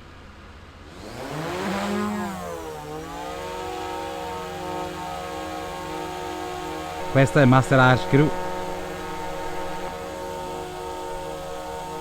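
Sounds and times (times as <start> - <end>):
drone propellers whining: 0.8 - 12.0.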